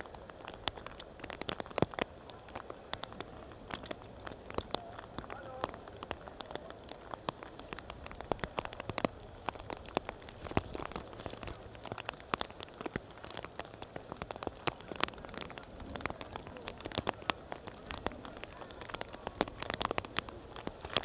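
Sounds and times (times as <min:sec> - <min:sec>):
raindrops ticking on surface: 0:00.0 - 0:21.0
steady rain hiss: 0:00.0 - 0:21.0.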